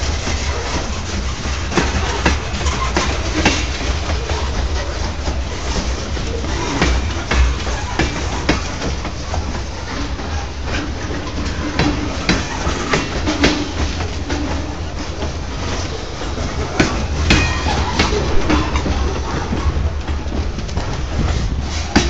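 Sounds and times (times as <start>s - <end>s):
freight train rumbling past: 0.0s - 22.0s
wheels clanking on rails: 0.0s - 22.0s.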